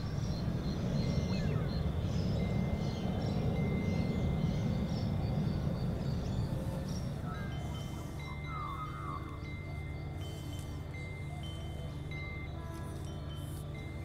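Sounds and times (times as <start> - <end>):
birds chirping: 0.0 - 13.9
thin high tone: 1.1 - 14.0.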